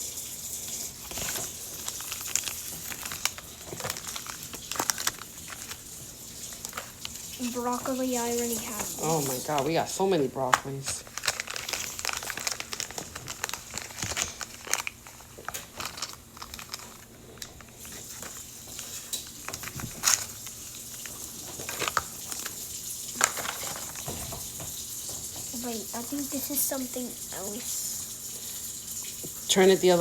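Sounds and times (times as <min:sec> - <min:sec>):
plastic wrappers crinkling: 0:00.4 - 0:30.0.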